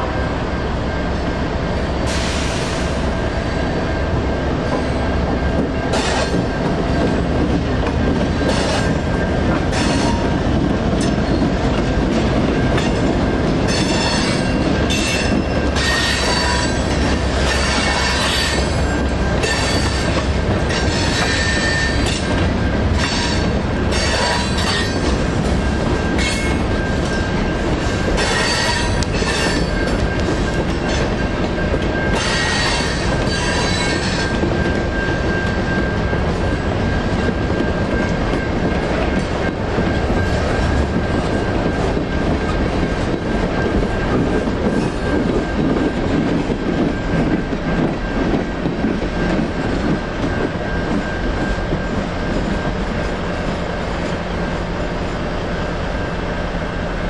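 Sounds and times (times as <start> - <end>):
diesel locomotive engines droning: 0.0 - 57.0
train wheels rumbling and squealing: 0.0 - 57.0.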